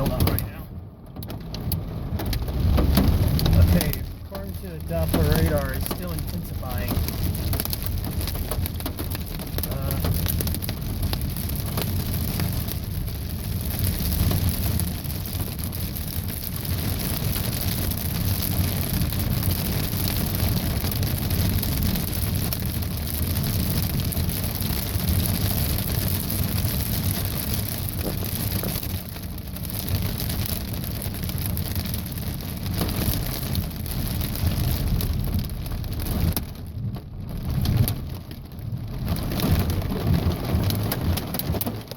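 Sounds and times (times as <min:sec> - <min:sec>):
hail pattering on vehicle roof: 0:00.0 - 0:41.9
low rumble: 0:00.0 - 0:41.9.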